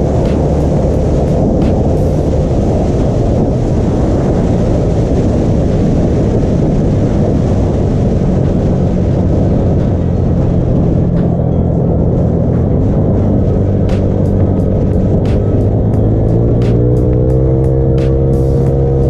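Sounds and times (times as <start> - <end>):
scooter engine: 0.0 - 5.3, 6.0 - 19.0
road and wind noise: 0.0 - 19.0.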